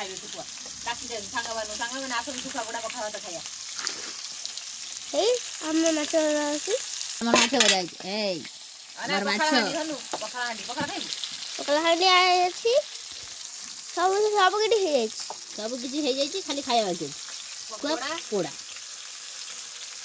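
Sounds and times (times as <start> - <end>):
fish sizzling in oil: 0.0 - 20.0
wood fire: 0.0 - 20.0.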